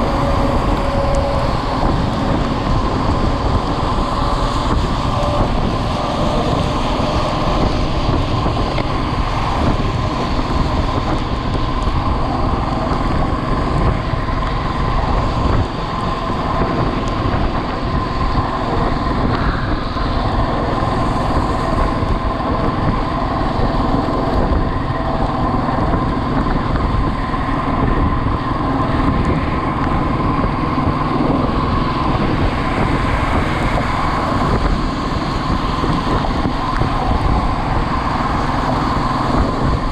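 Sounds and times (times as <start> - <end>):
motorcycle engine drone: 0.0 - 39.9
wind rushing over microphone: 0.0 - 39.9.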